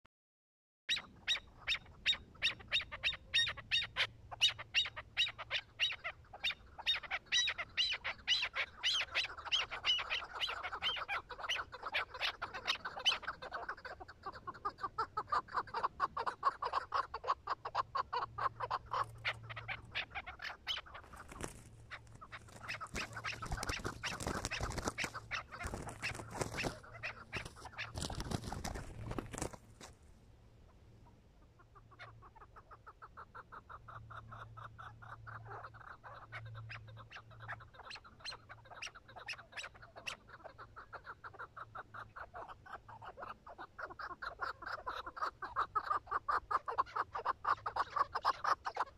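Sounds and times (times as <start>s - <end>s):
partridge clucking calls: 0.9s - 30.0s, 30.7s - 48.9s.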